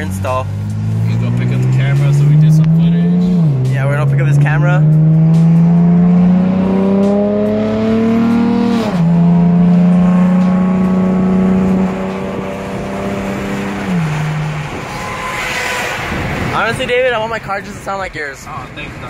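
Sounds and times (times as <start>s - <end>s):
car exhaust drone accelerating: 0.0s - 16.6s.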